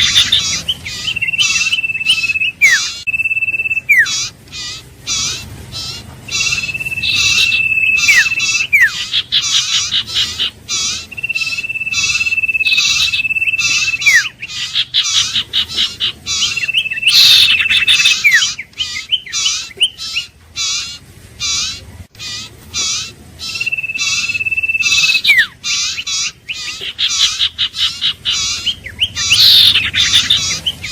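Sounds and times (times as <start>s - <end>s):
bird whistling song: 0.0s - 30.9s.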